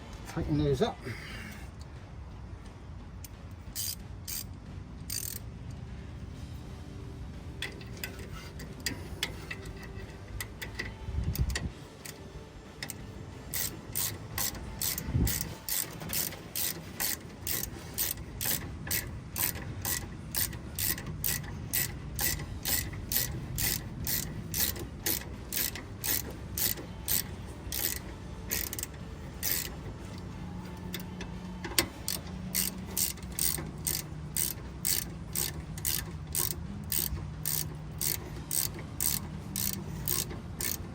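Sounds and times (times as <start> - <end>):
ratchet wrench clicking: 3.2 - 5.5, 7.6 - 40.9.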